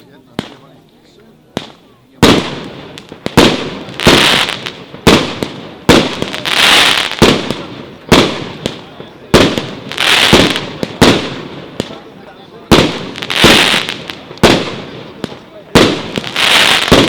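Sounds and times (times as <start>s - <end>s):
firework bangs with hiss: 0.0s - 17.0s.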